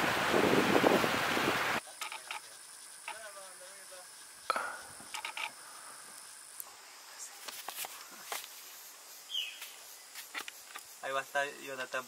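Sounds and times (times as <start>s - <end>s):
insect chirp: 0.0s - 12.0s
high-pitched insect drone: 1.8s - 12.0s.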